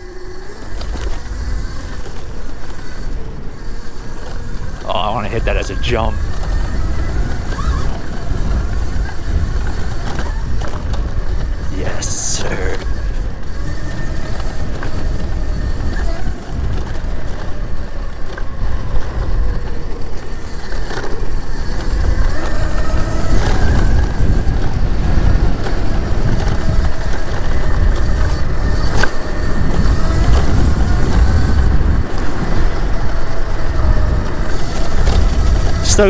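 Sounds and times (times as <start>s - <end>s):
electric motorbike motor whine: 0.0s - 36.0s
wind rumble on microphone: 0.0s - 36.0s.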